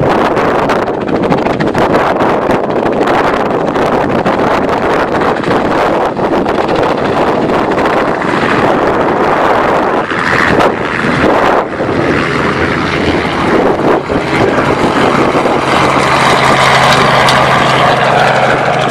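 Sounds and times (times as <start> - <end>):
helicopter roar: 0.0 - 18.9.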